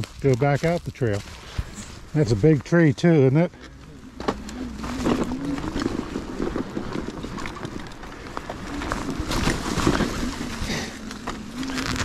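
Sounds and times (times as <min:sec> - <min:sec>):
low steady hum: 0:00.0 - 0:12.0
tyres crunching over leaves: 0:00.0 - 0:12.0.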